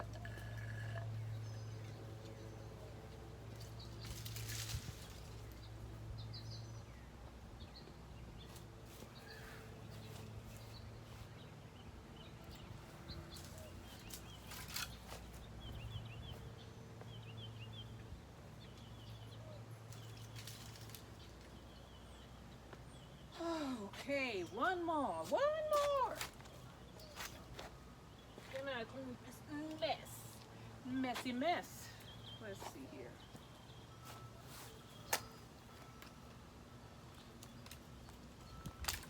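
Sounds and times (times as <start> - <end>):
birds chirping: 0.0 - 38.8
low steady hum: 0.0 - 39.0.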